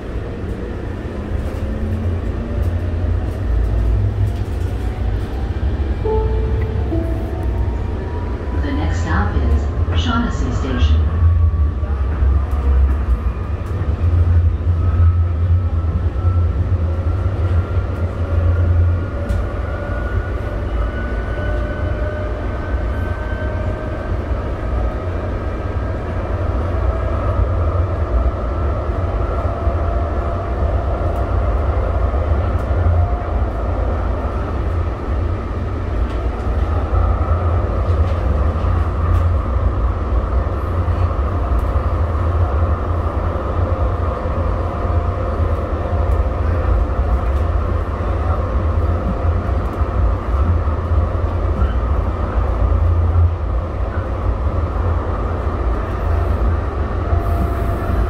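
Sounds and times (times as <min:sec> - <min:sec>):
wheels rumbling on rails: 0:00.0 - 0:58.0.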